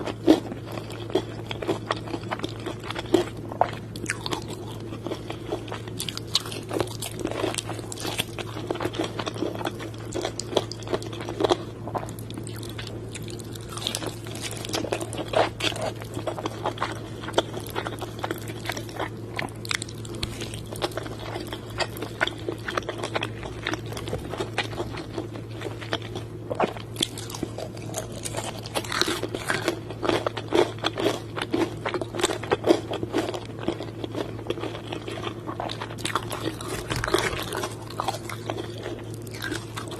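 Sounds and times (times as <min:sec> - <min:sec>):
crunching fried chicken: 0:00.0 - 0:39.9
steady low hum: 0:00.0 - 0:39.9.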